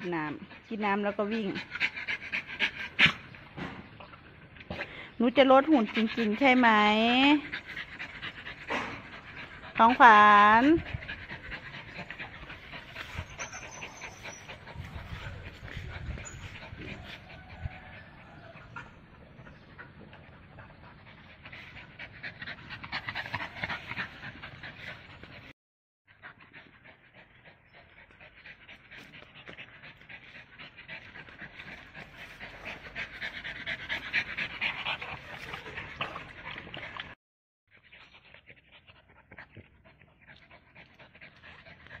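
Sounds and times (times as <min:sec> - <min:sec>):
dog panting rapidly: 0:00.0 - 0:25.5, 0:26.1 - 0:42.0.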